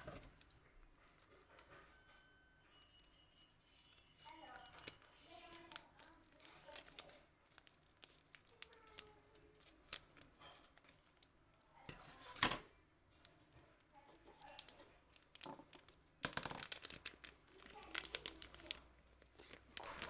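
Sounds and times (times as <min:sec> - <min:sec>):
hands handling plastic pot and toys: 0:00.0 - 0:20.0.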